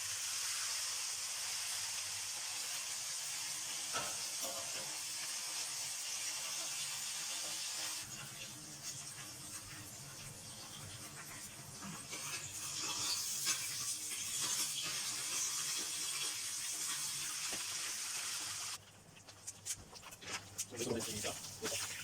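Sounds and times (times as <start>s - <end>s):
steam hissing from boiling pot: 0.0s - 18.8s, 20.7s - 22.0s.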